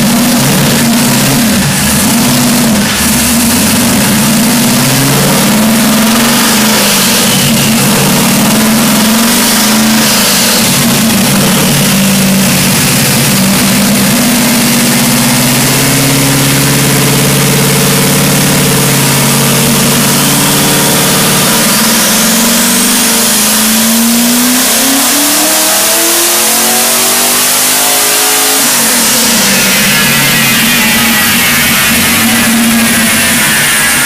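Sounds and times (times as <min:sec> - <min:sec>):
engine revving on a dyno: 0:00.0 - 0:34.0.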